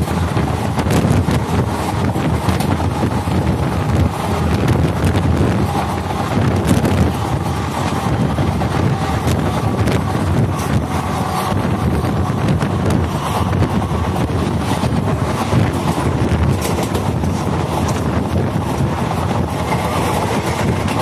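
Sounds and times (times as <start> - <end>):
sharp track clicks: 0.0 - 21.0
train rumble and rattle: 0.0 - 21.0
wind on microphone: 0.0 - 21.0.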